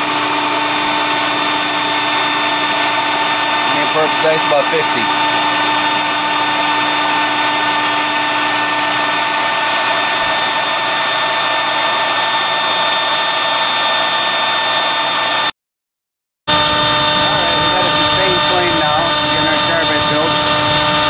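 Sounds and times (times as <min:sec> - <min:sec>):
electric blower motor whine: 0:00.0 - 0:15.5, 0:16.5 - 0:21.0.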